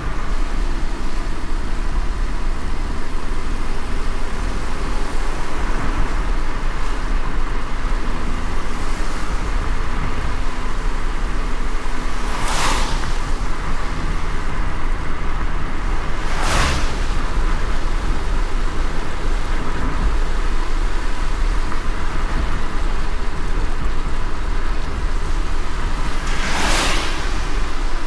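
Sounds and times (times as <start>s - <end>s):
car road rumble: 0.0s - 28.0s
car tyre swish: 0.0s - 28.0s
rain hiss: 0.0s - 28.0s.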